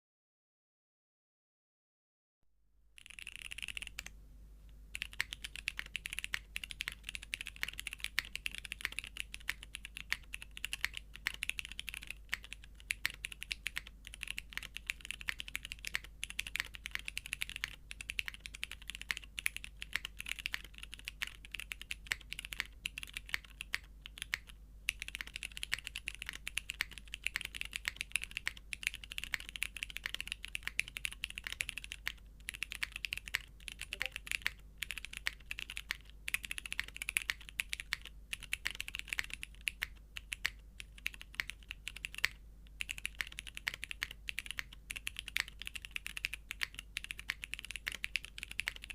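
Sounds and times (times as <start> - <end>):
typing on mechanical keyboard: 3.0 - 4.1, 4.9 - 48.9.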